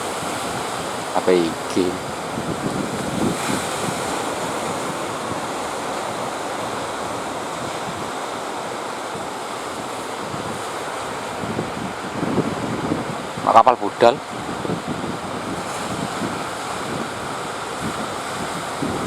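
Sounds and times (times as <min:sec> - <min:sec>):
sea surf rushing: 0:00.0 - 0:19.0
wind on microphone: 0:00.0 - 0:19.0.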